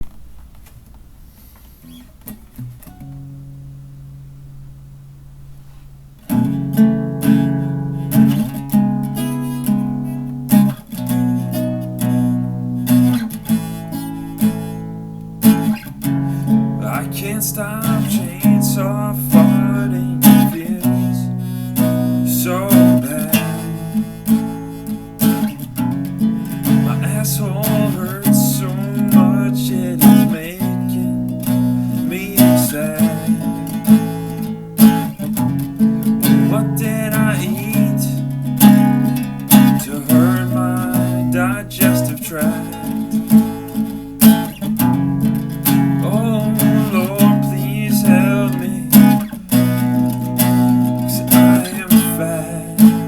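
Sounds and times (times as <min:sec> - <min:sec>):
strummed acoustic guitar music: 0:01.3 - 0:53.0.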